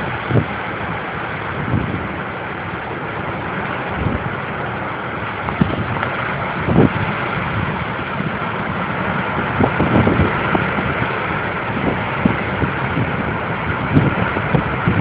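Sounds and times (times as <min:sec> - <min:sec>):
strong wind rushing through trees: 0:00.0 - 0:15.0
wind buffeting microphone: 0:00.0 - 0:15.0.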